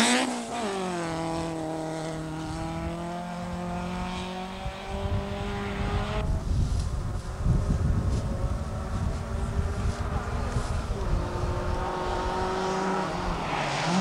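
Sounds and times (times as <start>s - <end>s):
rally car engine pulling hard: 0.0s - 6.5s, 7.2s - 14.0s.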